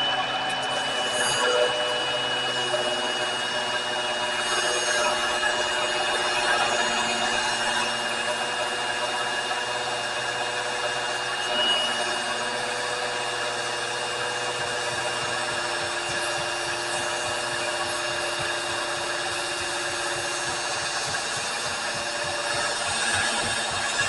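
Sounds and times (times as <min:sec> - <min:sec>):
power grinder whining on steel: 0:00.0 - 0:24.0.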